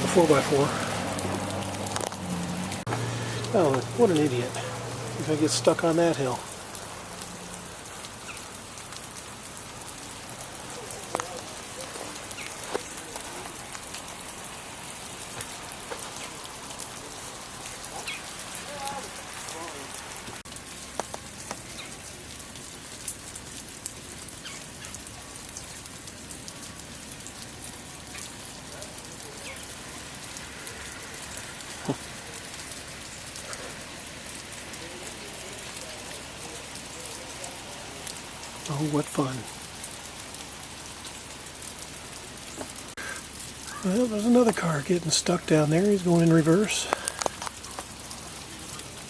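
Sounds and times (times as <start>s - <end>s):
sleet pattering on surfaces: 0.0s - 23.4s, 27.4s - 49.0s.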